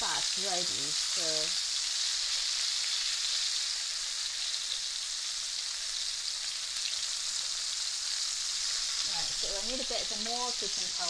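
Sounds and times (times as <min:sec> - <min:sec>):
prawns sizzling in hot oil: 0:00.0 - 0:11.0.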